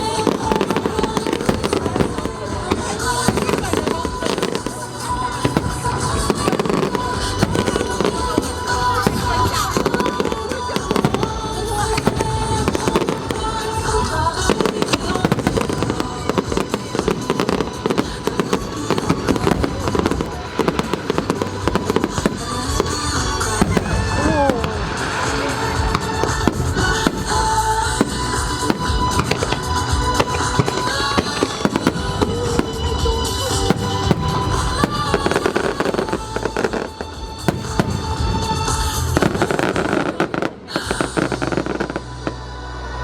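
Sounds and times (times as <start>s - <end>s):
fireworks bursting and crackling: 0.0s - 42.5s
music playing: 0.0s - 43.0s.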